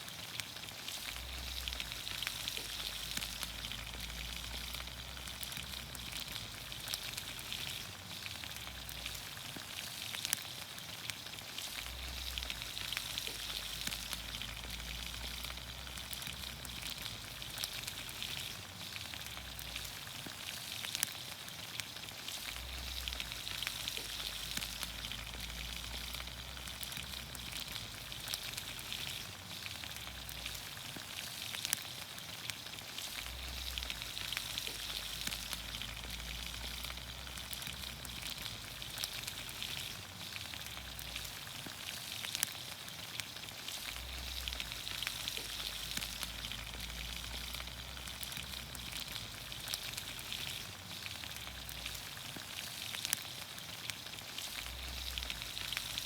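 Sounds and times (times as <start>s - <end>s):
vegetables sizzling in oil: 0.0s - 56.0s
sharp crackles: 0.1s - 56.0s.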